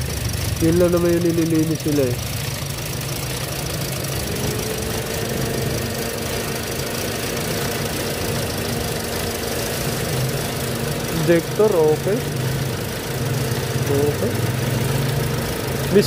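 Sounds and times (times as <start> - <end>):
car engine idling roughly: 0.0 - 16.0
faint steady whine: 0.0 - 16.0.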